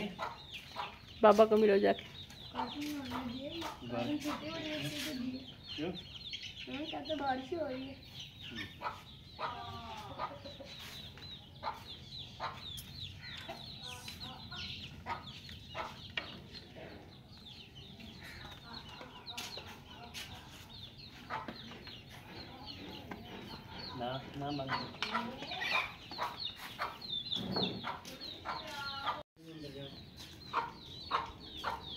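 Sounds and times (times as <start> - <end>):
hen clucking: 0.0 - 29.2, 30.1 - 31.9
chicks peeping: 0.0 - 31.9.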